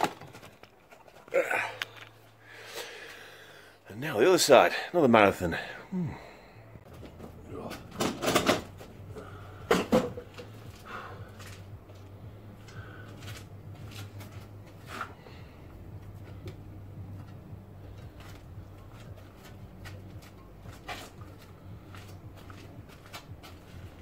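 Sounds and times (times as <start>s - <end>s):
steady low hum: 1.3s - 24.0s.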